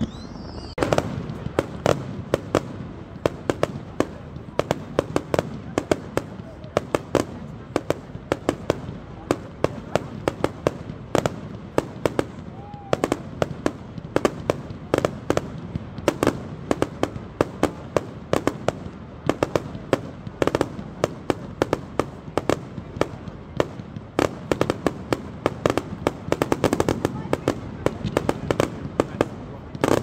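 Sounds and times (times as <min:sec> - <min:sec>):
fireworks bangs and pops: 0:00.0 - 0:30.0.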